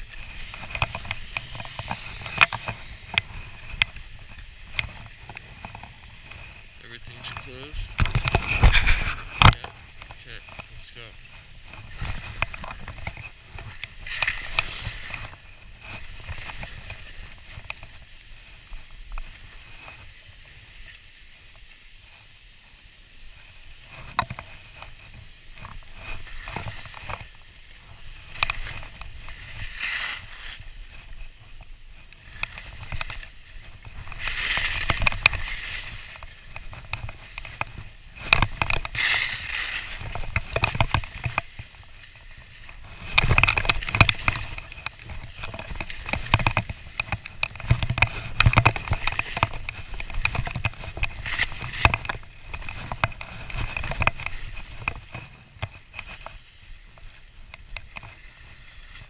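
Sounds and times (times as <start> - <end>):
skis scraping through snow: 0.0 - 59.0.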